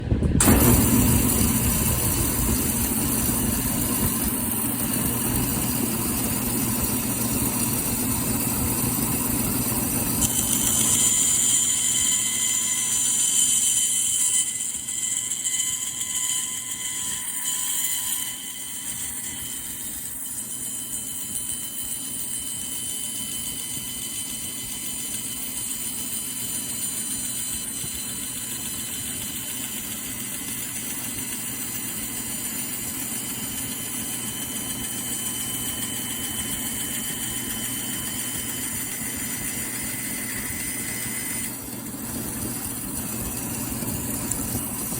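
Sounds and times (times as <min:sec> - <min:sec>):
bandsaw running: 0:00.4 - 0:44.9.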